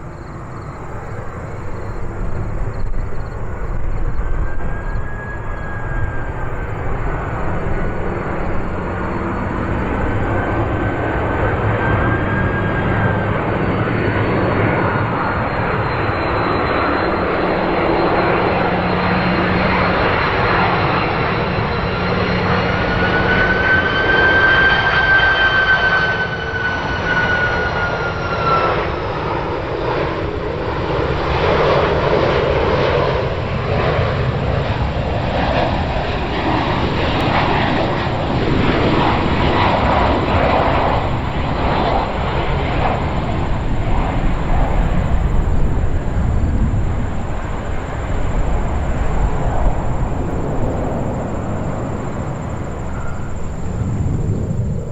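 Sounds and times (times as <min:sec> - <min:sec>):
high turbofan whine: 0:00.0 - 0:54.9
jet engines roaring: 0:00.0 - 0:54.9.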